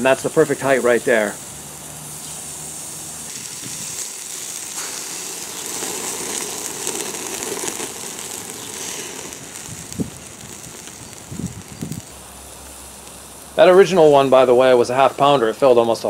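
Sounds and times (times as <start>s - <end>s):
burger patty sizzling on grill: 0.0s - 16.0s.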